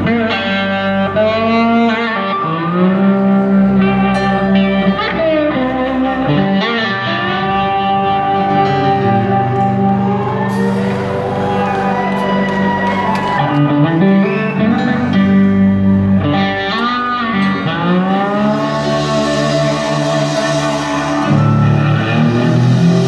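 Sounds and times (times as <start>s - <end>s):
electric guitar bending notes: 0.0s - 23.0s
rock band playing live: 0.0s - 23.0s.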